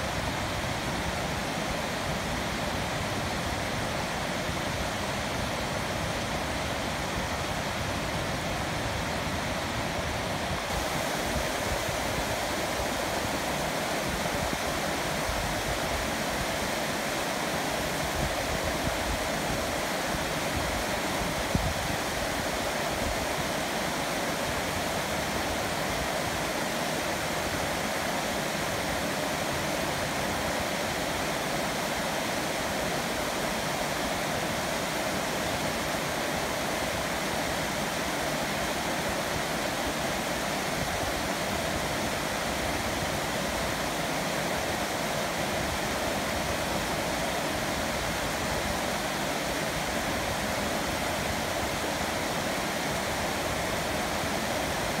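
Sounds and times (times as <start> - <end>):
stream water rippling over rocks: 0.0 - 55.0.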